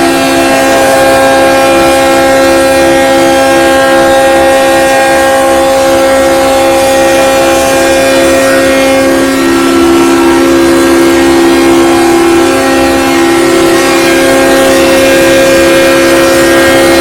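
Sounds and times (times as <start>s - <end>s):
locomotive horn blast: 0.0s - 17.0s.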